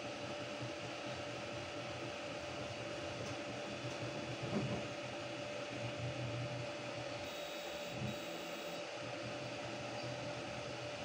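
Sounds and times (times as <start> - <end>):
cooling fans whirring: 0.0 - 11.0
printer motor hum: 0.0 - 11.0.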